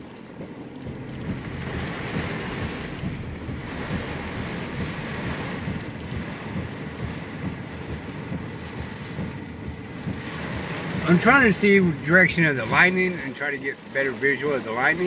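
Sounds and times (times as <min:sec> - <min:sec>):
wind buffeting microphone: 0:00.0 - 0:13.2
heavy rain pouring: 0:00.0 - 0:15.0.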